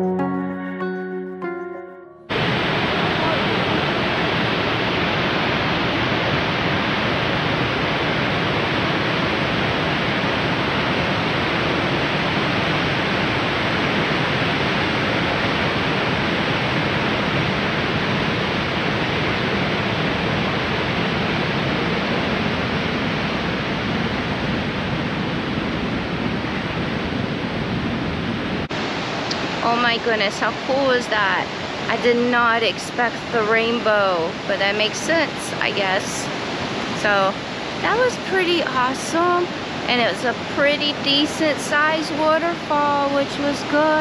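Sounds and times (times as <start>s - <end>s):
waterfall rushing: 2.3s - 43.8s.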